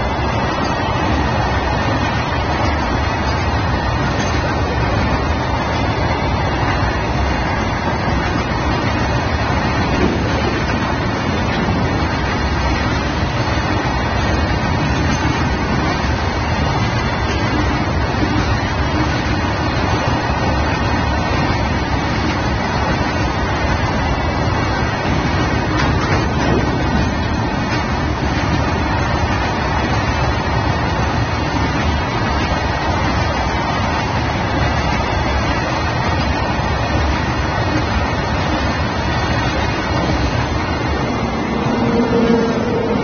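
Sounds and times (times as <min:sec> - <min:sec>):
freight wagons rumbling on rails: 0:00.0 - 0:43.0.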